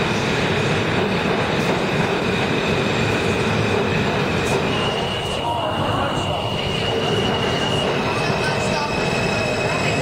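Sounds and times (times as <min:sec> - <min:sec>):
subway train wheels rumbling: 0:00.0 - 0:10.0.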